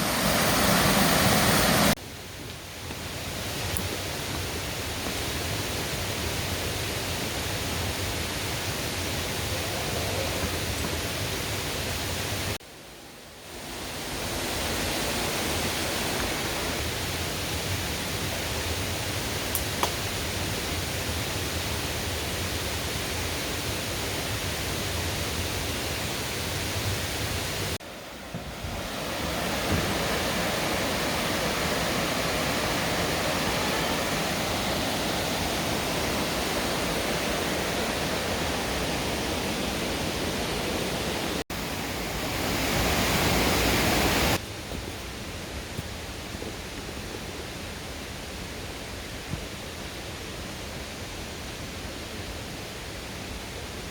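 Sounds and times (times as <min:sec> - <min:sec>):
stream rushing: 0:00.0 - 0:53.9.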